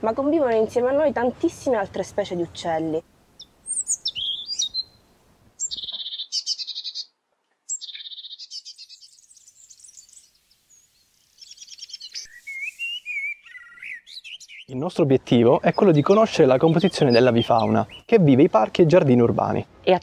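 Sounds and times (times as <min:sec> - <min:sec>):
songbirds singing: 0:01.6 - 0:19.4.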